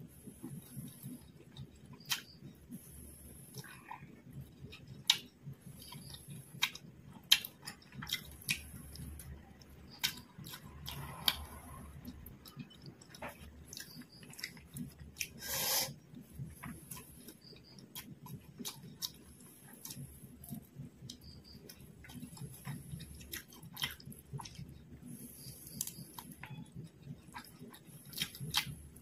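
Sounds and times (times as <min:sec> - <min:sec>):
crunchy chewing: 0:00.2 - 0:29.0.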